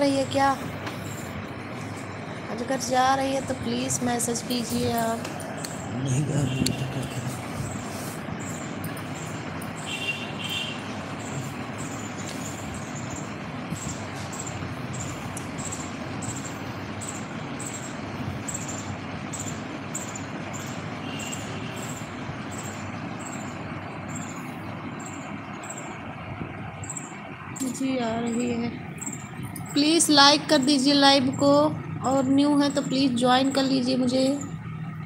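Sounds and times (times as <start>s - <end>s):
steady background noise: 0.0s - 35.0s.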